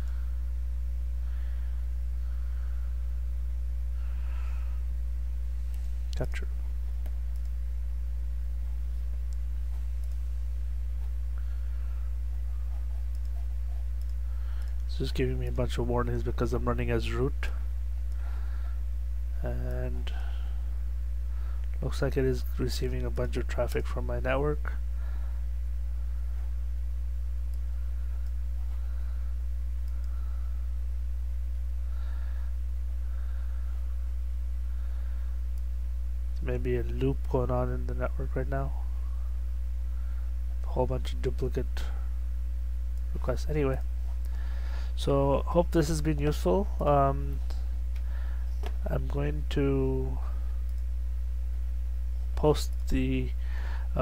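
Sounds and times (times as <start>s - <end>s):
low electrical mains hum: 0.0s - 54.0s.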